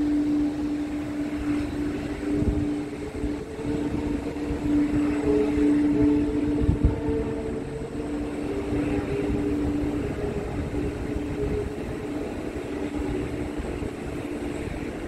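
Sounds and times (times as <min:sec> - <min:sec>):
jet engines droning: 0:00.0 - 0:15.0
wind rumbling on microphone: 0:00.0 - 0:15.0.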